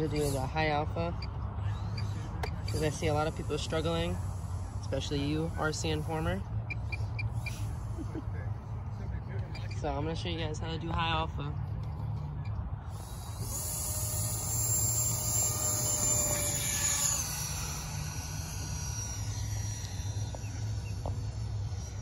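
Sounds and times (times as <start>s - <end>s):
model jet fan whining: 0.0s - 22.0s
steady low rumble: 0.0s - 22.0s.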